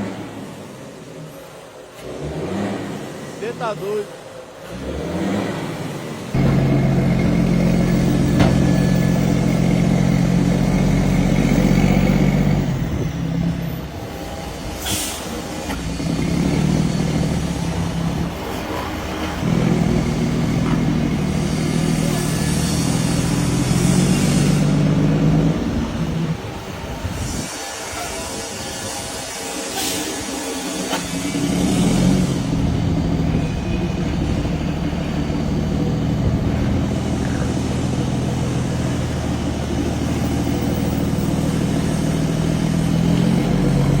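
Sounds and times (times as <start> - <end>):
truck diesel engine revving: 0.0 - 27.5, 29.4 - 44.0.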